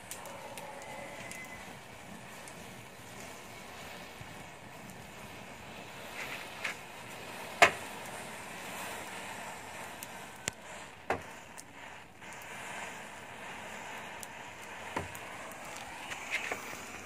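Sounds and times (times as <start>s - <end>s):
match heads crackling and popping: 0.0s - 17.0s
matches burning: 0.0s - 17.0s.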